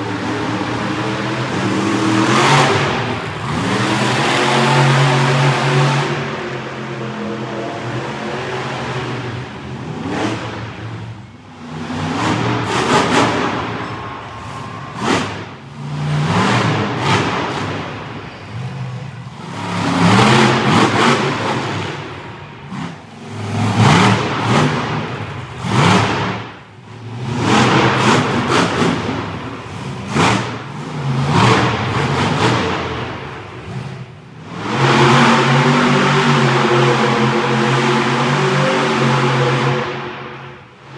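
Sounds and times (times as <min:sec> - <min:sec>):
monster truck engines revving: 0:00.0 - 0:40.9.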